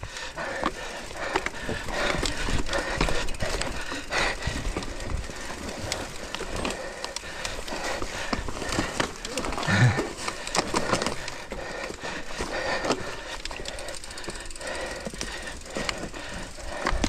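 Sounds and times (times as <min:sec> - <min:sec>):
bike clattering over rocks: 0:00.4 - 0:17.0.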